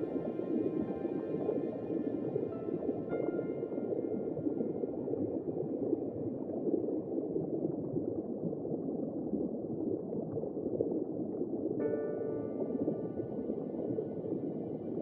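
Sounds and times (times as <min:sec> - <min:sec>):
bubbling gurgling water: 0:00.0 - 0:15.0.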